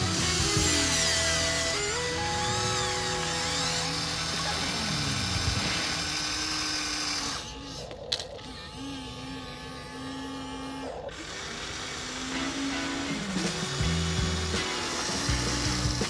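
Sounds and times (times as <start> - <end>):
toy excavator motors whining: 0.0 - 16.0.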